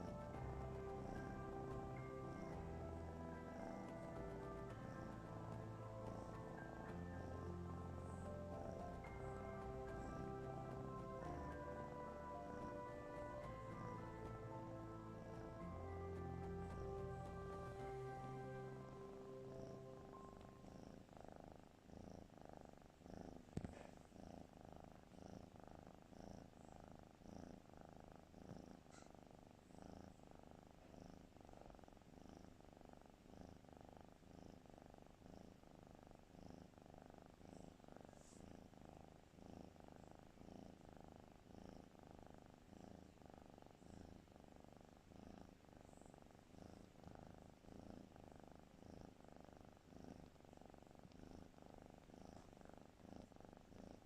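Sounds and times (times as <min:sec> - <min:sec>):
cat snoring: 0:00.0 - 0:54.0.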